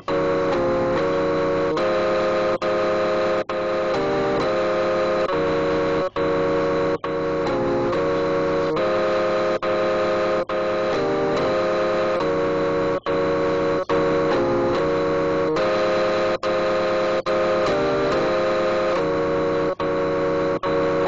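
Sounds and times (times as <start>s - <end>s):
electronic chord tones: 0.0s - 21.0s.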